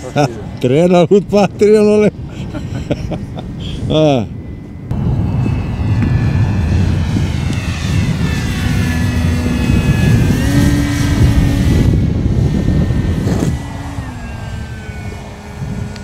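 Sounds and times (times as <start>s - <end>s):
model jet fan whining: 0.0s - 16.0s.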